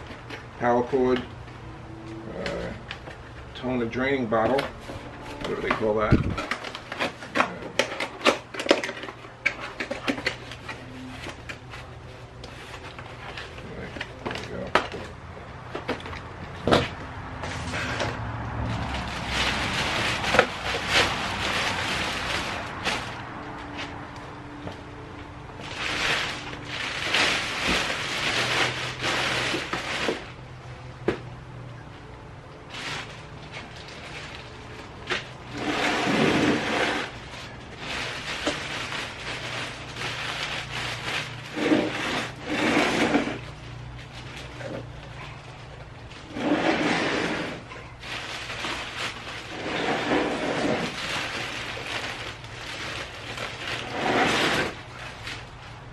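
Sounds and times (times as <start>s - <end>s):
plastic bag rustling: 2.7s - 30.6s, 32.6s - 55.9s.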